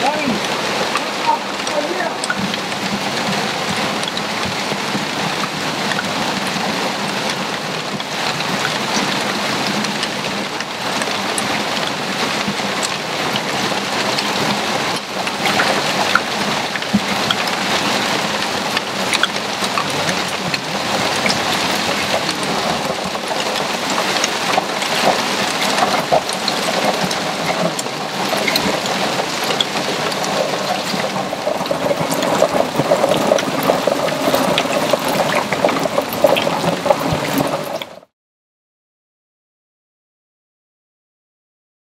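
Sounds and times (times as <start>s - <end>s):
hail falling hiss: 0.0s - 38.1s
hailstones ticking: 0.0s - 38.1s.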